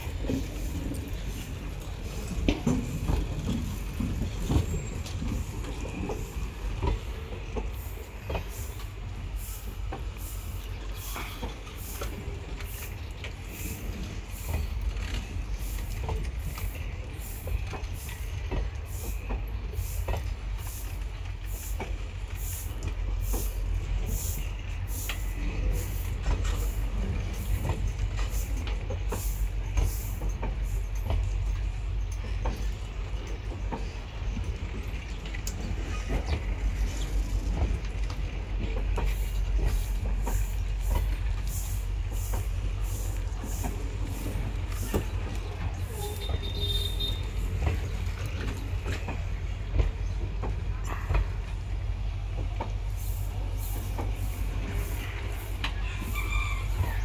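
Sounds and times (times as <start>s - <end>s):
train rumbling on rails: 0.0s - 57.0s
wheels clicking on track: 0.0s - 57.0s.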